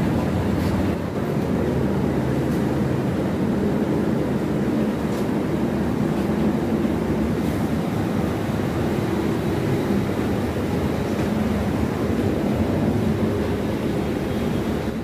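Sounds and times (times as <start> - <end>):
aircraft and machinery rumble: 0.0 - 15.0.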